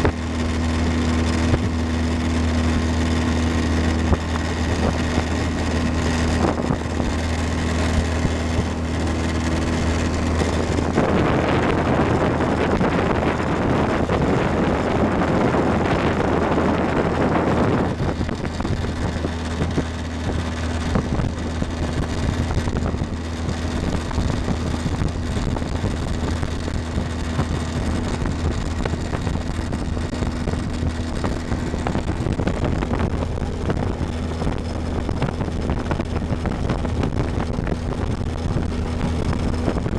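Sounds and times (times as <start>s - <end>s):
motorboat engine droning: 0.0s - 39.9s
wind on microphone: 0.0s - 39.9s.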